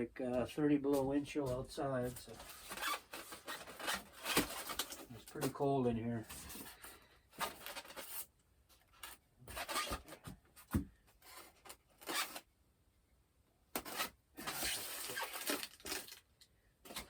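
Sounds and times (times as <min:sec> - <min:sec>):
rustling and scraping of handling: 0:00.2 - 0:12.5, 0:13.8 - 0:17.0.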